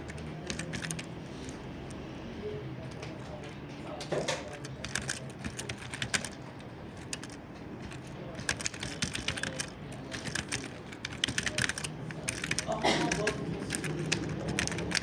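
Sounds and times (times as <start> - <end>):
keyboard key clicks: 0.0 - 2.0, 2.8 - 15.0.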